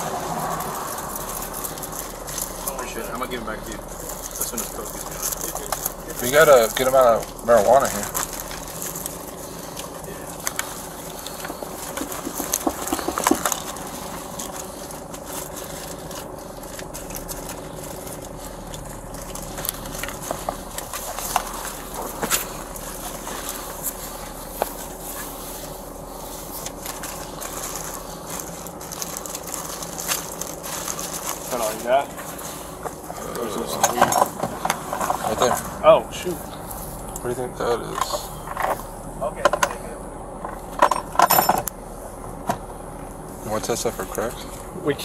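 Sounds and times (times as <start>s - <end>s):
rustling: 0.0s - 39.1s
low hum: 0.0s - 44.8s.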